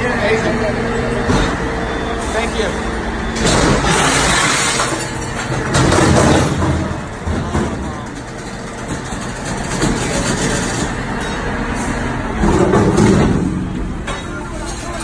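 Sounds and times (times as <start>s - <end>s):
garbage truck engine humming: 0.0s - 15.0s
street traffic: 0.0s - 15.0s.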